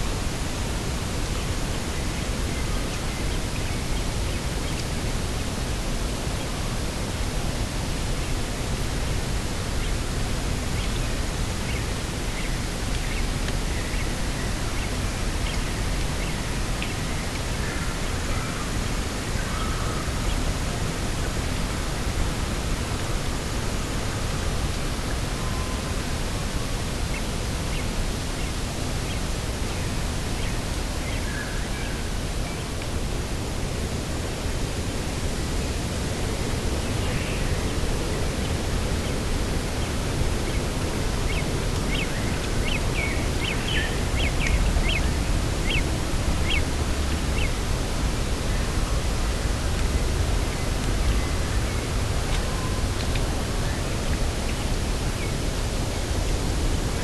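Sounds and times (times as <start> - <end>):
low rumbling wind: 0.0 - 57.0.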